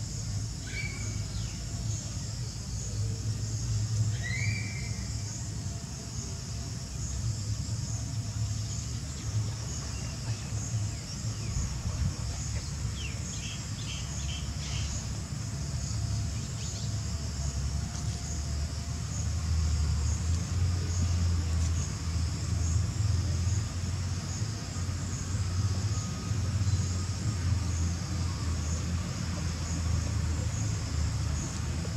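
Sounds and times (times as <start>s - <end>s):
insects trilling: 0.0s - 31.9s.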